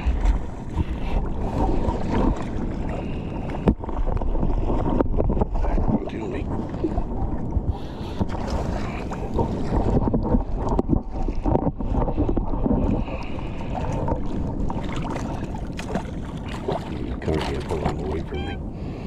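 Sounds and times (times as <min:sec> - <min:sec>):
water sloshing and splashing: 0:00.0 - 0:19.0
wind buffeting microphone: 0:00.0 - 0:19.0.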